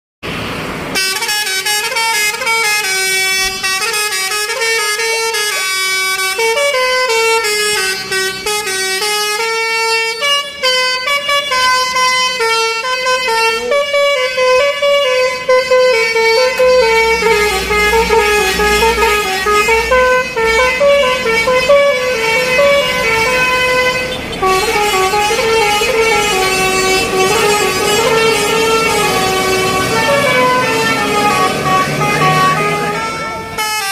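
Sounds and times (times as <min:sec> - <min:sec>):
multi-tone bus horn melody: 0:00.9 - 0:33.9.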